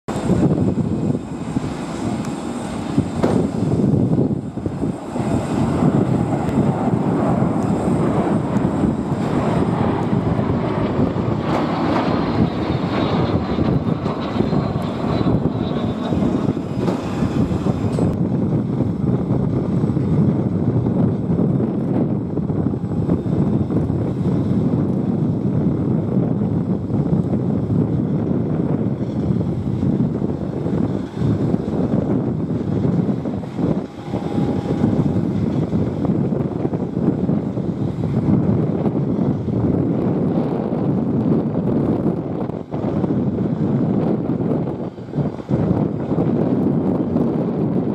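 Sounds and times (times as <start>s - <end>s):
falling whine: 0.1s - 25.8s, 28.8s - 47.8s
jet engines flying past: 0.1s - 47.9s
jet taxiing: 0.1s - 47.9s.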